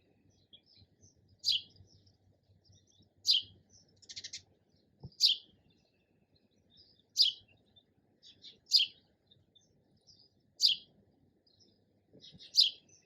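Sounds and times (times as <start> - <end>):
sparrow chirping: 0.1 - 13.0.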